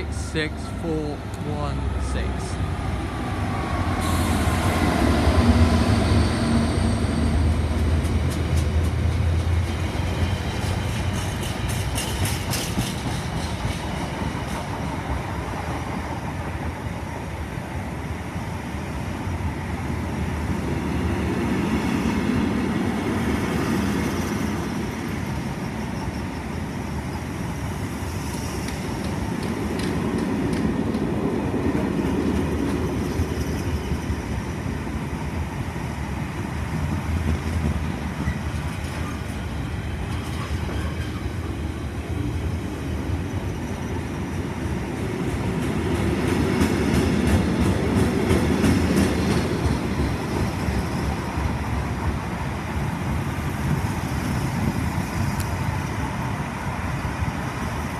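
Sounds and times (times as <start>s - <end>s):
train wheels rumbling: 0.0s - 16.8s, 20.1s - 57.9s.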